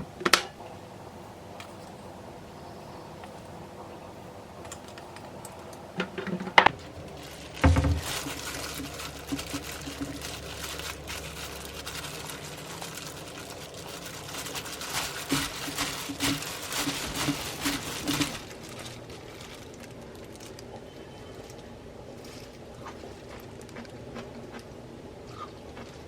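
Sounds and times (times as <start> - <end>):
wet trickling handling noise: 4.6 - 26.0.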